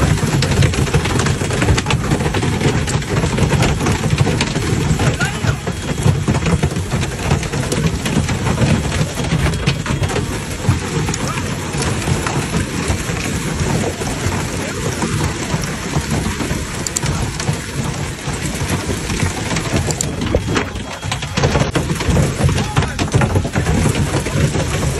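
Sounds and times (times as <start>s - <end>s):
hail and heavy rain clattering: 0.0s - 24.9s.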